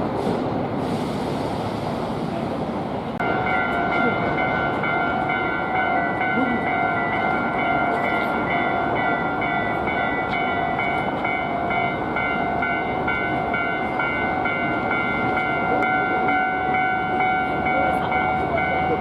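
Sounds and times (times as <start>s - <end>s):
train running on rails: 0.0s - 19.0s
level crossing warning bells: 3.2s - 19.0s.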